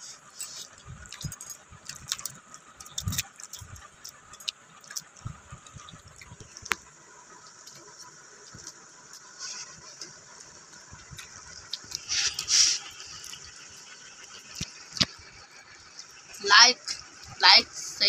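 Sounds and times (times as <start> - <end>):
person chewing: 0.2 - 15.2.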